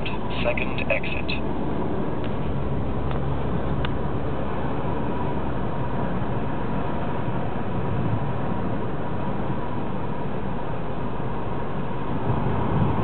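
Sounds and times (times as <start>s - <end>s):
road and engine noise in car: 0.0s - 13.0s.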